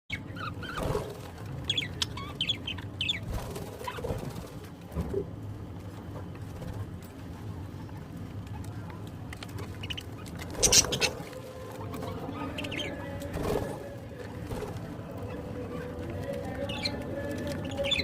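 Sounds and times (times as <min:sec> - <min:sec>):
birds chirping: 0:00.1 - 0:04.8, 0:07.6 - 0:18.0
steady low hum: 0:00.1 - 0:18.0.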